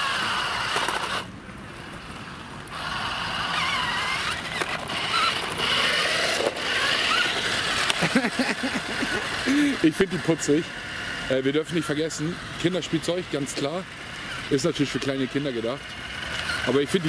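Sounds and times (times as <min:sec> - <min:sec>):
toy car motor whining: 0:00.0 - 0:17.0.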